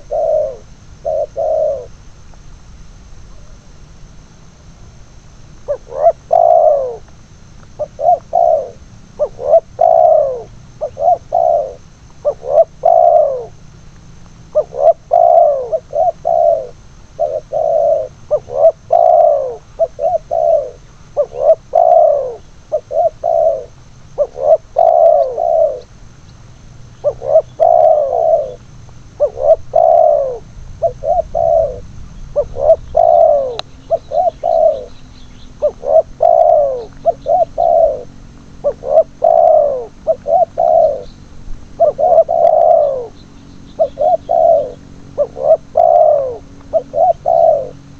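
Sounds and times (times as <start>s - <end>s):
dove cooing: 0.0s - 2.3s, 5.6s - 47.9s.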